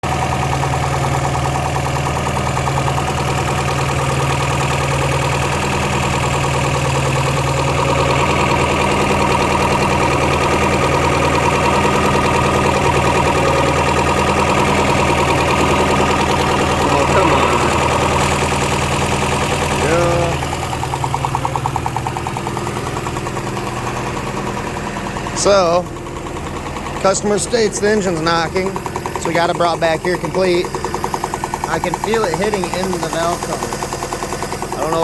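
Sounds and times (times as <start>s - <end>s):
engine idling with rapid knock: 0.0s - 35.0s.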